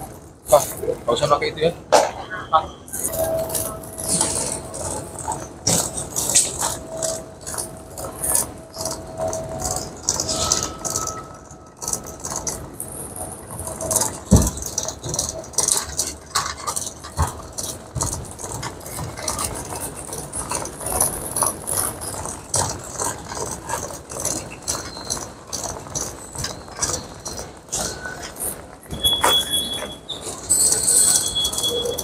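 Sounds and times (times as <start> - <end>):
luggage trolley rattling on tiles: 2.8 - 32.0.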